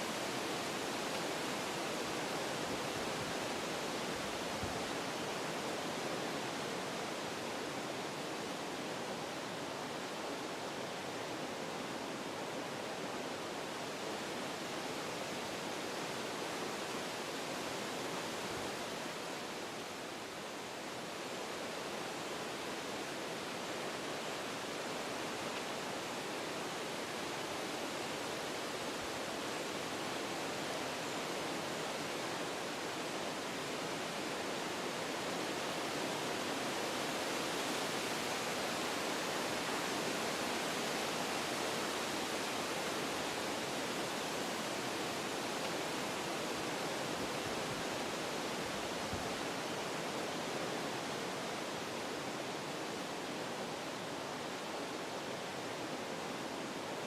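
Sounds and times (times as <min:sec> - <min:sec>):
wind through forest trees: 0:00.0 - 0:57.0.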